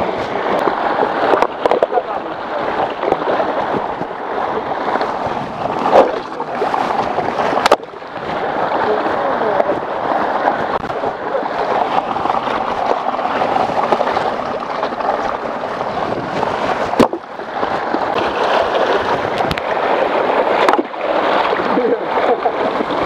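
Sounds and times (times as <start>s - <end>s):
stream water rushing and gurgling: 0.0s - 23.0s.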